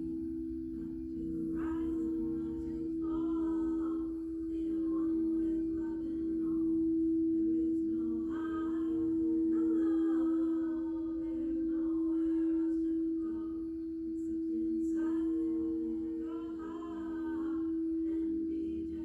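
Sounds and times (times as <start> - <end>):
higher wavering pitched tones: 0.0 - 19.0
singing bowl ringing: 0.0 - 19.0.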